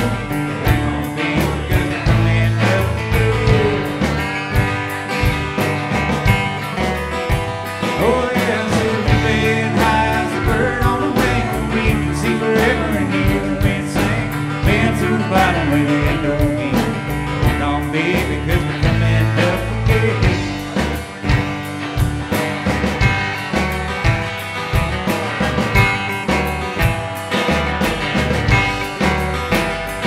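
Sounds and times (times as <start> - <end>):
live country-rock band: 0.0 - 30.0.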